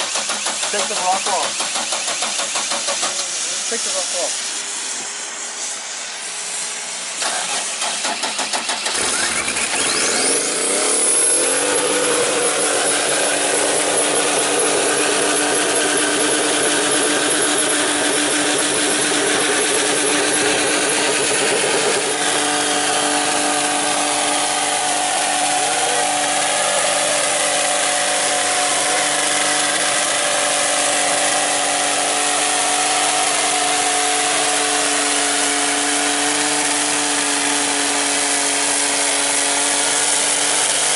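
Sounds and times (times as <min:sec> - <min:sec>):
car engine revving: 0:07.2 - 0:40.9.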